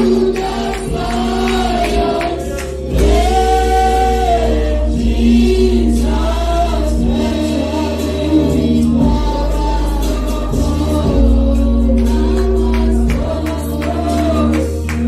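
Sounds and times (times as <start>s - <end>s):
choir singing gospel: 0.0s - 15.0s
steady low accompaniment: 0.0s - 15.0s.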